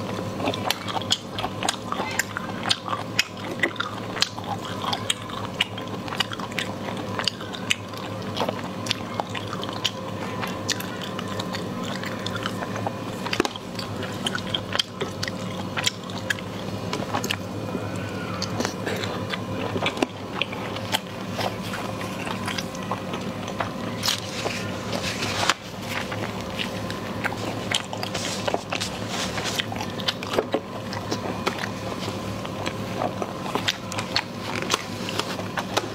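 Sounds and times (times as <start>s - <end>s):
person chewing and crunching: 0.0s - 35.9s
steady low hum: 0.0s - 35.9s.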